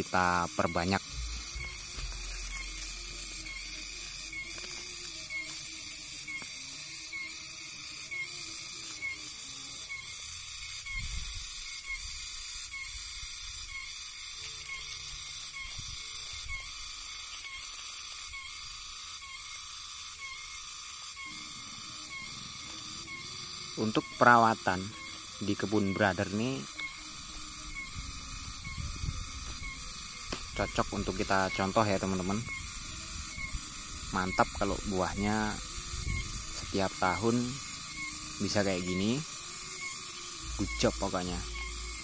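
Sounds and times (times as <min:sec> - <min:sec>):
high-pitched rhythmic pulsing: 0:00.0 - 0:42.0.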